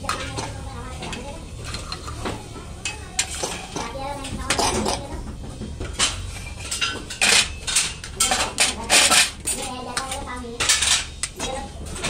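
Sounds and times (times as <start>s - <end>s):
metal clanking and scraping: 0.0s - 12.0s.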